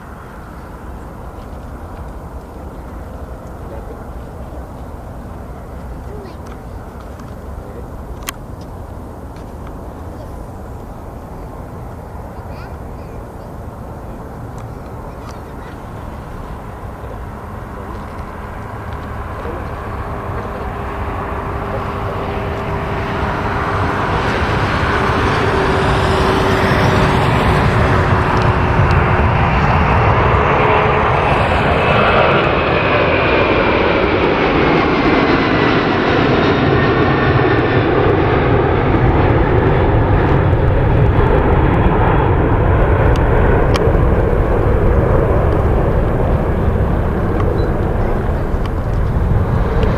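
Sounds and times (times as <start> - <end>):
jet engines roaring at takeoff: 0.0 - 49.9.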